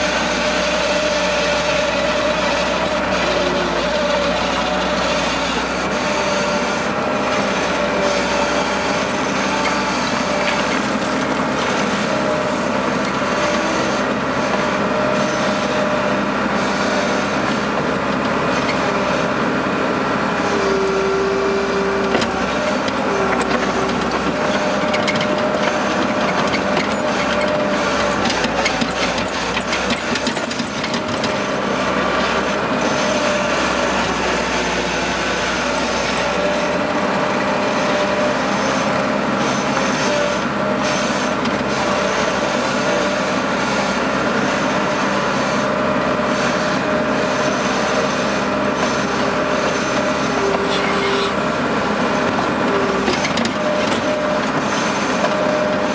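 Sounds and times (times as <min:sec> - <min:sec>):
diesel engine running with whine: 0:00.0 - 0:55.9.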